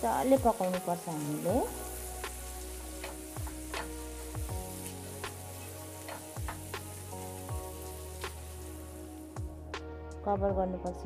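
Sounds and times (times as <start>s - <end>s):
vegetables sizzling in oil: 0.0s - 9.6s
background music with low beats: 0.0s - 11.0s.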